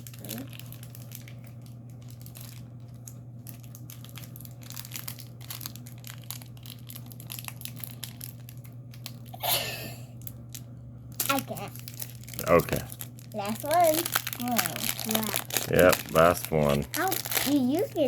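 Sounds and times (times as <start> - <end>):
foil wrappers crinkling and tearing: 0.0 - 18.0.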